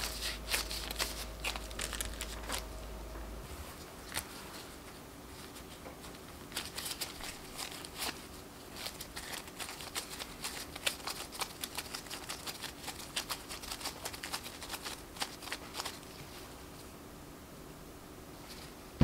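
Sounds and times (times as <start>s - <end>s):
plastic gloves crackling: 0.0s - 2.8s, 3.4s - 16.6s.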